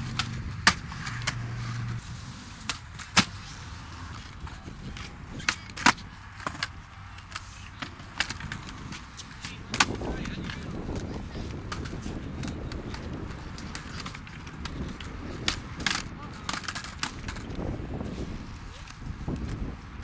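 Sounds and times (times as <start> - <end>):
skateboard wheels rolling on concrete: 0.0 - 20.0
skateboards clacking on ground: 0.0 - 20.0.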